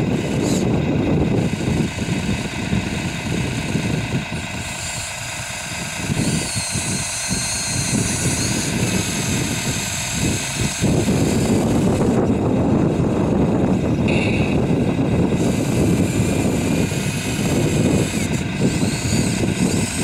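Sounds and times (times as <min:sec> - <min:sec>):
electric motors whining: 0:00.0 - 0:20.0
steady low rumble: 0:00.0 - 0:20.0.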